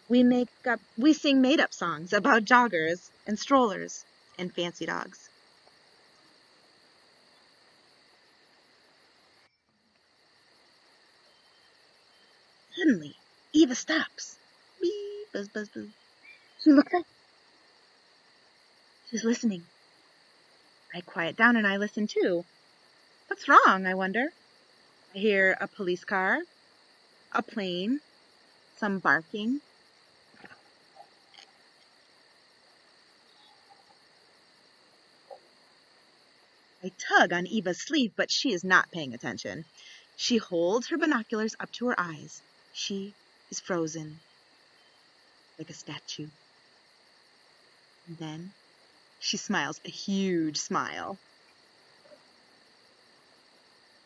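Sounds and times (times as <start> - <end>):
faint high-pitched hiss: 0.0 - 54.0.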